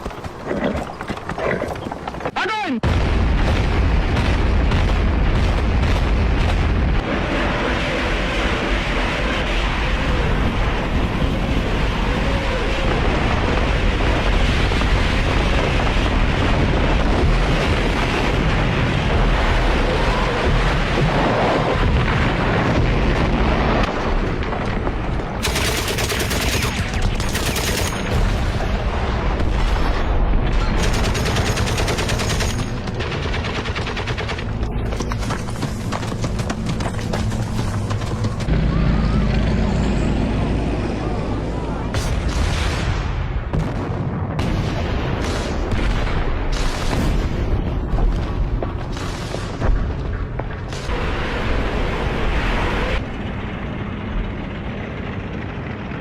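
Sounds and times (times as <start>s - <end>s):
dense gunfire: 2.8s - 12.1s, 12.8s - 38.5s, 41.9s - 52.5s
explosions: 2.8s - 40.1s, 41.8s - 53.2s.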